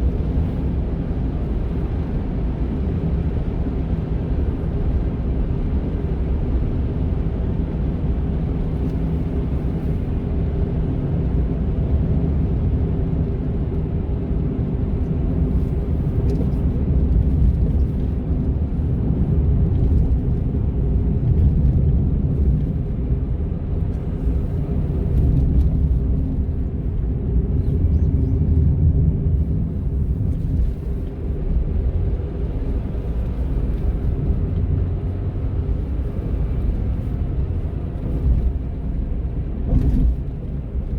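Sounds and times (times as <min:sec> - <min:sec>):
road rumble: 0:00.0 - 0:40.9.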